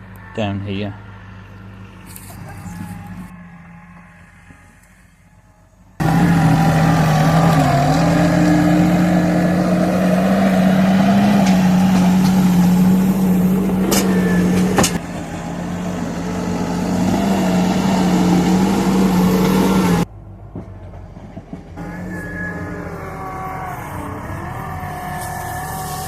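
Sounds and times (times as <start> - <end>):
loader engine running under load: 1.0 - 26.0.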